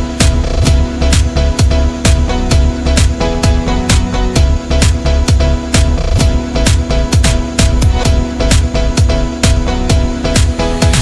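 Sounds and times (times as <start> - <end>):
deep kick drum: 0.0 - 11.0.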